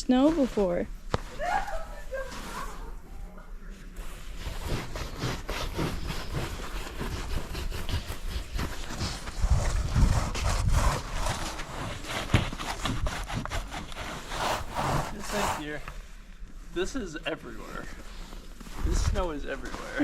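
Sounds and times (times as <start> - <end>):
snow crunching: 0.0 - 3.0, 4.0 - 15.9, 16.7 - 20.0.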